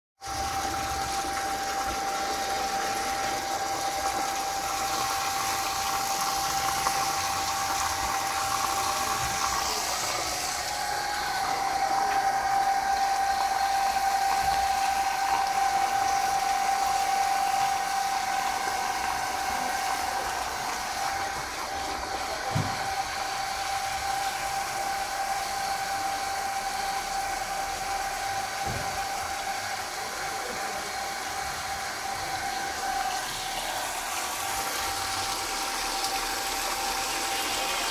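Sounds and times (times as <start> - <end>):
pump whine: 0.2 - 37.9
water gushing from pipe onto soil: 0.2 - 37.9.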